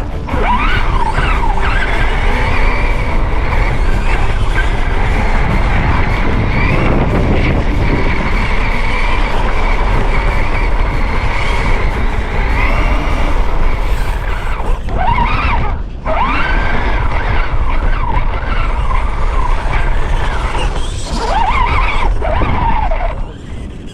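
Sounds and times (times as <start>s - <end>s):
toy car motor whining: 0.0s - 23.9s
tyres rumbling on rough ground: 0.0s - 23.9s.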